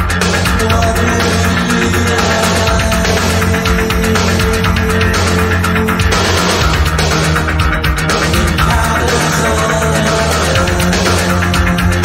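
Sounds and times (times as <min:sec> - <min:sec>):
post-punk track with drum beat: 0:00.0 - 0:12.0.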